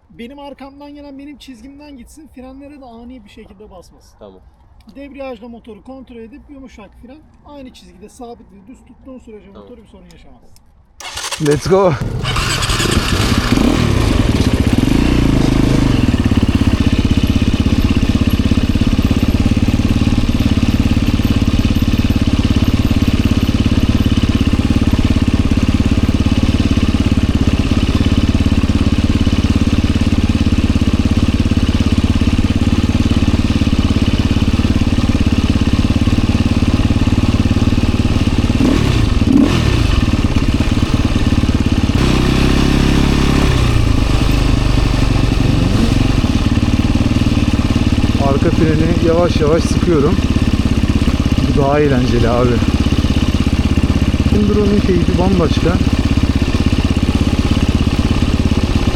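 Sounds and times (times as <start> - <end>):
dirt bike engine running: 11.0 - 58.9.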